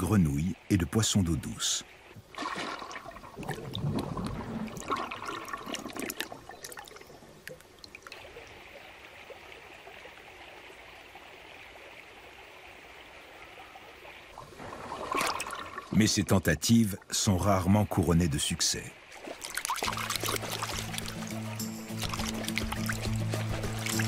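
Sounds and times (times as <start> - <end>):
stream water trickling: 0.0 - 24.0.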